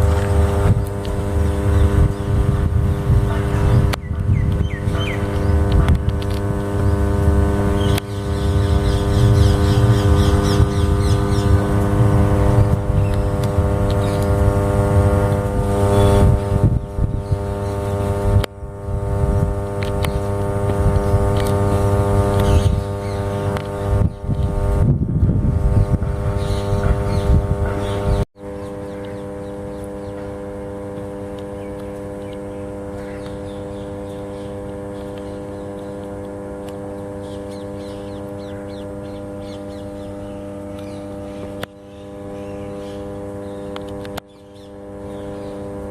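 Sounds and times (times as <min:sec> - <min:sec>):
low rumbling noise: 0:00.0 - 0:45.9
transformer humming: 0:00.0 - 0:45.9.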